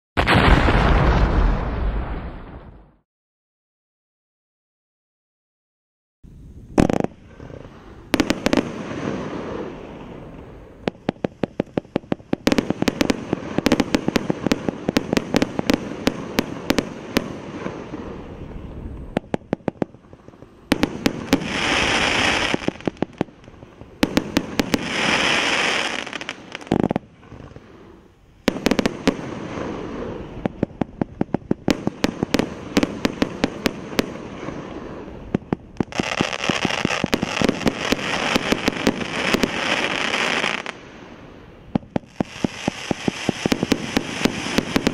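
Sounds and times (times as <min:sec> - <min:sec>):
dense firework hiss: 0:06.3 - 0:44.9.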